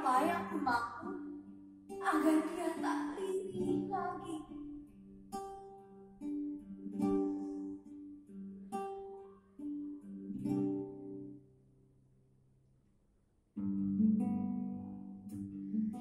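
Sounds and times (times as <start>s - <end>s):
acoustic guitar plucked chords: 0.0s - 12.0s, 13.6s - 16.0s.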